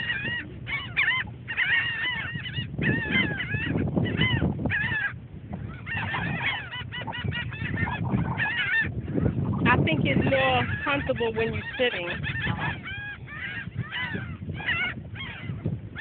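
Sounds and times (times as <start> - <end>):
birds calling: 0.0 - 16.0
low rumble of wind: 0.0 - 16.0.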